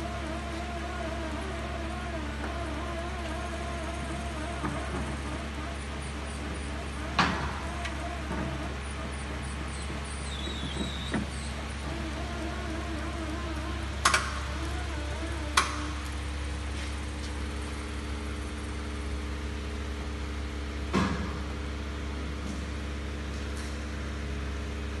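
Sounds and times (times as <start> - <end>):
printing press mechanical hum: 0.0 - 25.0.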